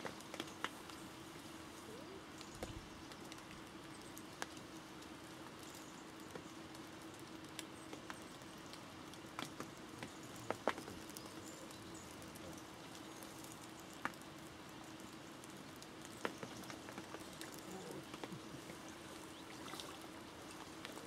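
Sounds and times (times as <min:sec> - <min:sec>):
faint steady hiss: 0:00.0 - 0:21.0
rain pattering on canopy: 0:00.0 - 0:21.0.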